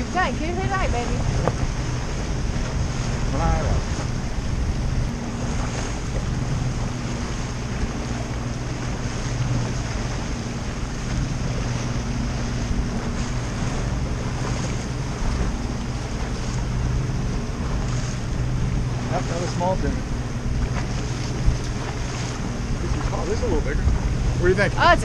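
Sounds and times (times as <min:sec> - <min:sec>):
outboard motor humming: 0:00.0 - 0:25.0
water washing along hull: 0:00.0 - 0:25.0
wind on microphone: 0:00.0 - 0:25.0.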